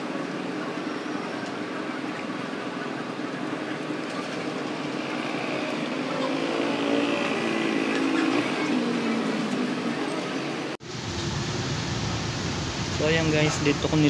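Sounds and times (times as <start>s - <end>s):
vehicle noise: 0.0s - 14.0s.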